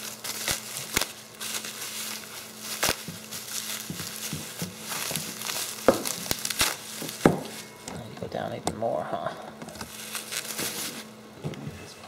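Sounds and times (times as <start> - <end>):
bubble wrap crinkling: 0.0 - 8.1, 9.7 - 11.3.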